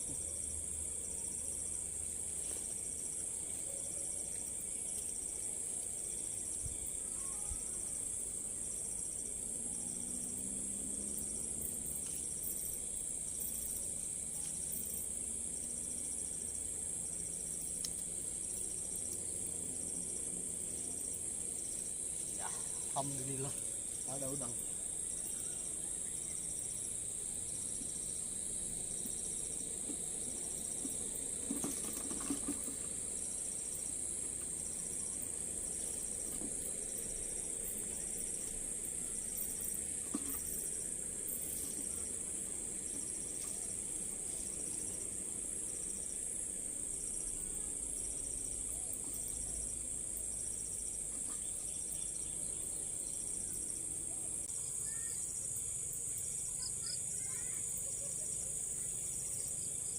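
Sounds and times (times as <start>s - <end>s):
insects chirring: 0.0s - 59.9s
pulsing insect call: 0.0s - 59.9s.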